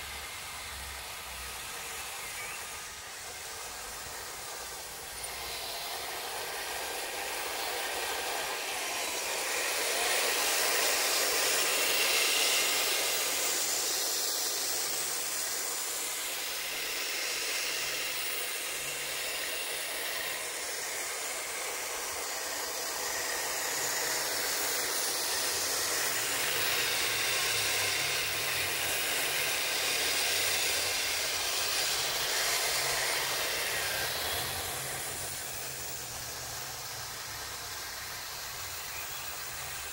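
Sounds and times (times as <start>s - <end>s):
toy tank motors whirring: 0.0s - 39.9s.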